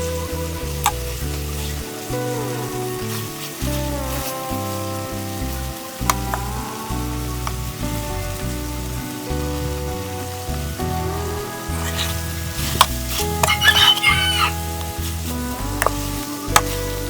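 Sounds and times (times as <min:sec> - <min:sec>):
background music with bass line: 0:00.0 - 0:17.0
food sizzling in a pan: 0:00.0 - 0:17.0.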